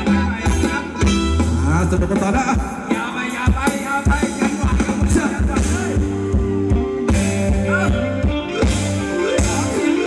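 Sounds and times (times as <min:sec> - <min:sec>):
live band dance music: 0:00.0 - 0:10.0
steady drum beat: 0:00.0 - 0:10.0.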